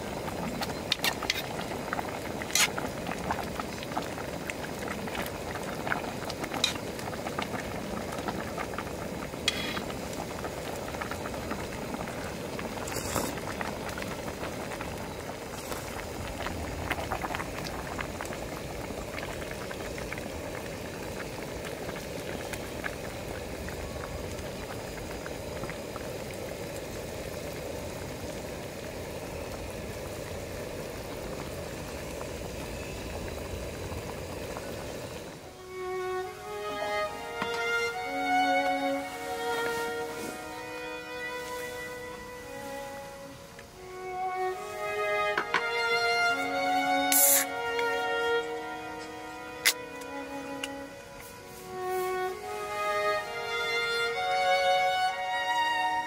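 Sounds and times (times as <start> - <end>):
pot of liquid boiling: 0.0 - 56.0.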